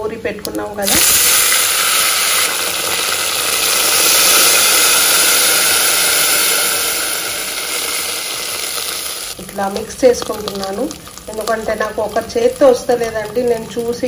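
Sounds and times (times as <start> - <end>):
batter sizzling in hot oil: 0.7 - 14.0.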